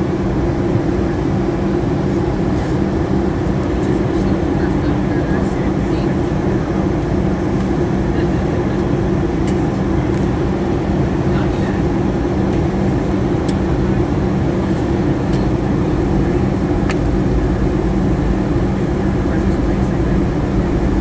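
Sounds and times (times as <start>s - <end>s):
airplane cabin engine noise: 0.0s - 21.0s.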